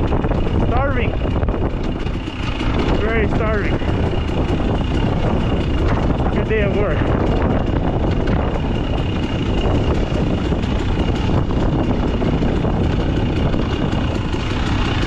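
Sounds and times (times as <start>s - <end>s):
vehicle engine running: 0.0s - 15.0s
wind buffeting microphone: 0.0s - 15.0s.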